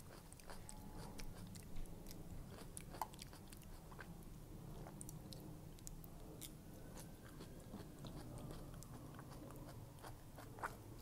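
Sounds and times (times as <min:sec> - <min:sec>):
wet chewing and mouth clicks: 0:00.0 - 0:11.0.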